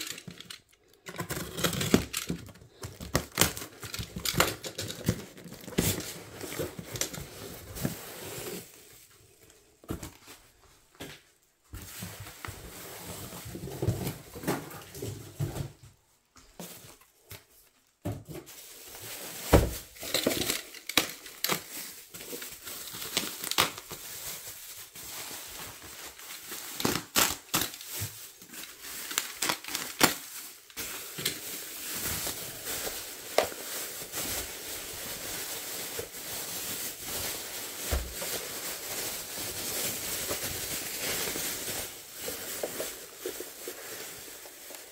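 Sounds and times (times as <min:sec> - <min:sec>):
bubble wrap crinkling: 0:00.0 - 0:15.3, 0:16.1 - 0:44.9.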